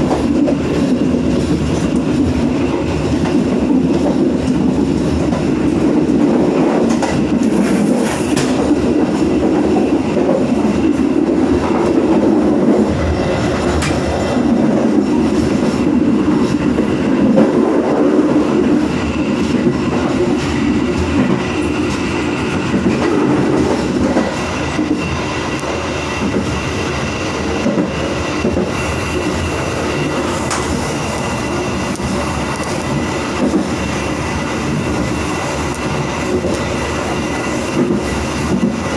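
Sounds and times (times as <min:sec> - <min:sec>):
train wheels clacking over rails: 0:00.0 - 0:38.9.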